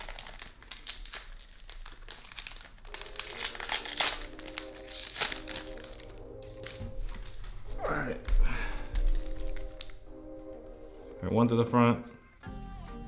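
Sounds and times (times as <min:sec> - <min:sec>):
foil wrapper crackle: 0:00.0 - 0:10.7
foil wrapper crinkling: 0:00.0 - 0:11.0.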